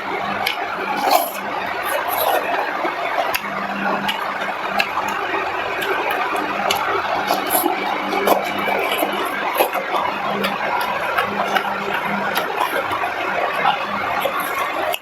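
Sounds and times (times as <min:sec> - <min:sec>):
wet chewing and mouth sounds: 0:00.1 - 0:15.0.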